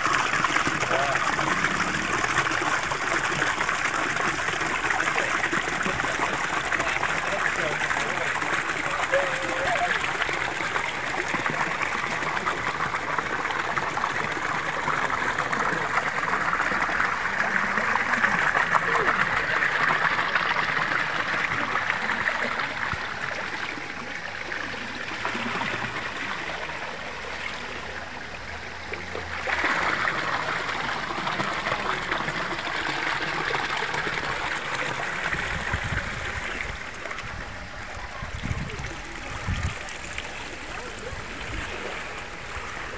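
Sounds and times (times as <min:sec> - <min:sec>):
water rushing over rocks: 0:00.0 - 0:42.9.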